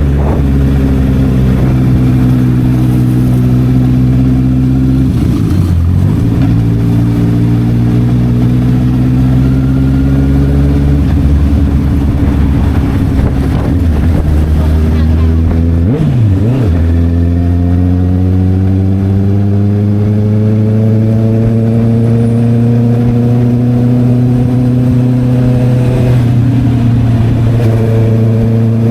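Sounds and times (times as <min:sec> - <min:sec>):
motorcycle engine running loud: 0:00.0 - 0:28.9.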